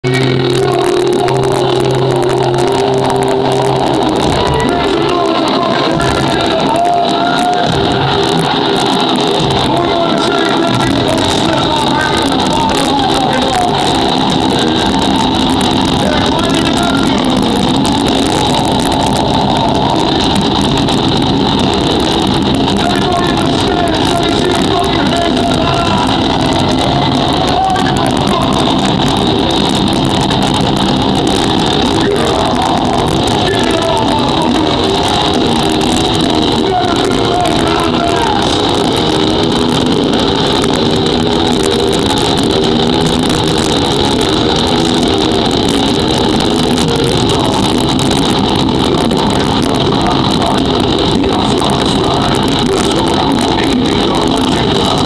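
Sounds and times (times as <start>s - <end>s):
distorted live metal band: 0.0s - 55.0s.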